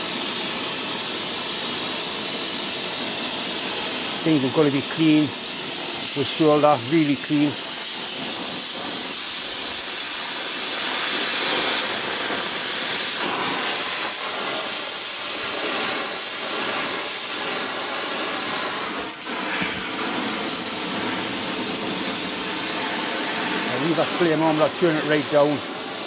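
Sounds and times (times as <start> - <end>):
brazing torch flame hissing: 0.0 - 26.0
gas ring burning: 0.2 - 26.0.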